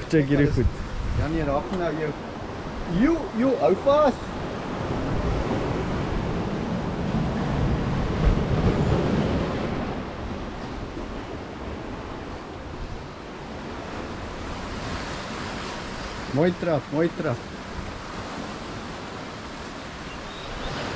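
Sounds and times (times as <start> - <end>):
sea surf washing against rocks: 0.0 - 20.9.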